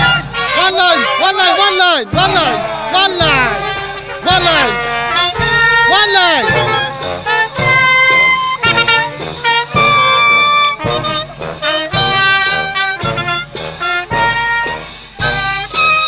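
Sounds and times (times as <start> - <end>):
marching brass band playing: 0.0 - 16.0
sharp drum beat strikes: 2.0 - 16.0.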